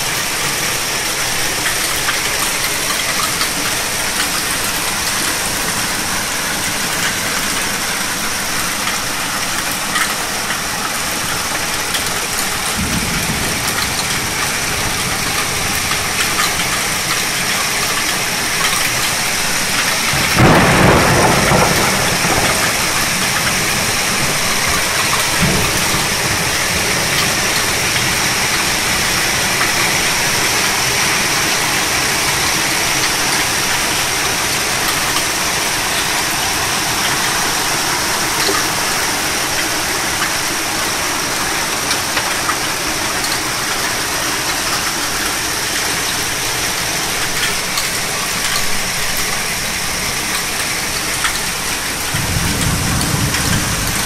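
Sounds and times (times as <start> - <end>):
heavy rain pouring: 0.0 - 54.0
thunder rumbling: 4.0 - 43.8, 44.7 - 54.0.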